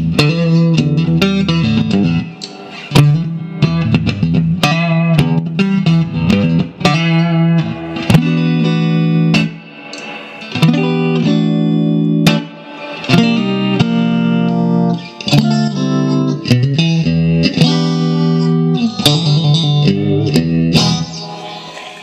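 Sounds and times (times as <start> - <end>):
electric guitar chords: 0.0 - 22.0
electric guitar single notes: 0.0 - 22.0.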